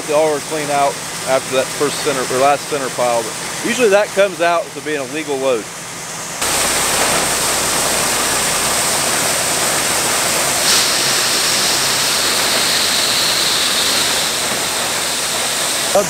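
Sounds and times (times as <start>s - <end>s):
grain pouring into metal trailer: 0.0s - 5.4s, 6.4s - 16.0s.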